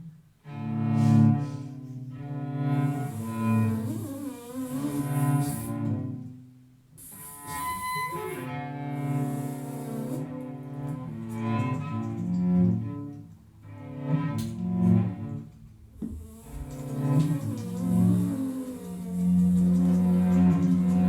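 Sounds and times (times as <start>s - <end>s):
cello long low notes: 0.0s - 21.0s.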